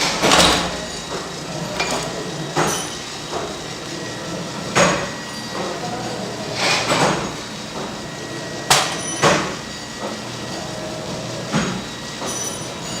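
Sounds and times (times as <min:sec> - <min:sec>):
machine hum with high whine: 0:00.0 - 0:13.0.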